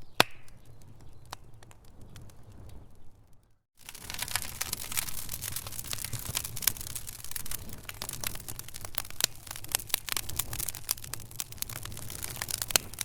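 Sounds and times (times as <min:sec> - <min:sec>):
wood fire crackling and popping: 0:00.1 - 0:13.0
low rumble of flames: 0:00.2 - 0:13.0.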